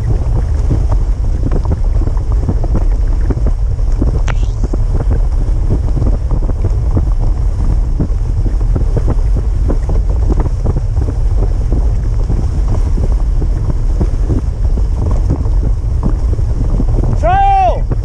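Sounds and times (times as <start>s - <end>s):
sled knocking and scraping on snow: 0.0s - 18.0s
wind buffeting microphone: 0.0s - 18.0s.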